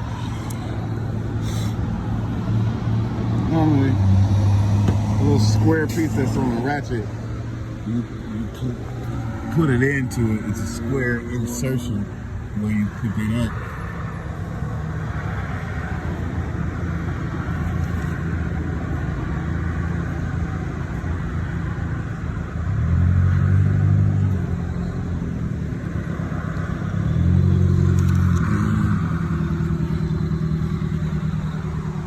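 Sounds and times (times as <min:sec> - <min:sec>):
car engine running: 0:00.0 - 0:22.7, 0:24.2 - 0:32.0.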